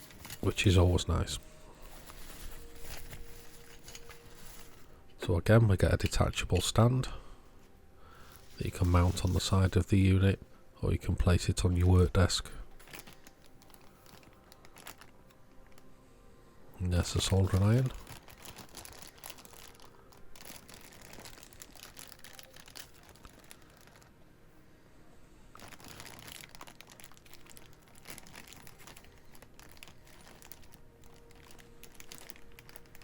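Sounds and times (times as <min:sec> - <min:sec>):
plastic bag crinkling: 0:00.0 - 0:05.1, 0:08.0 - 0:10.0, 0:11.2 - 0:15.9, 0:16.8 - 0:24.1, 0:25.5 - 0:33.0.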